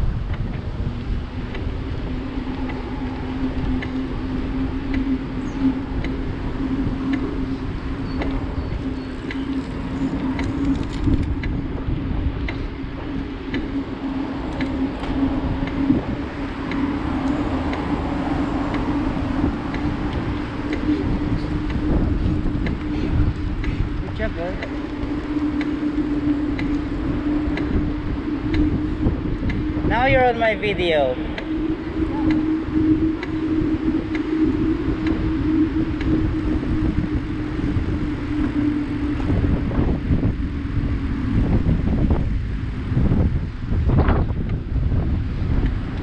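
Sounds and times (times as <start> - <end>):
bicycle tyres rolling: 0.0 - 46.0
low hum: 0.0 - 46.0
wind buffeting microphone: 0.0 - 46.0
light ticks: 0.3 - 37.0, 45.6 - 46.0.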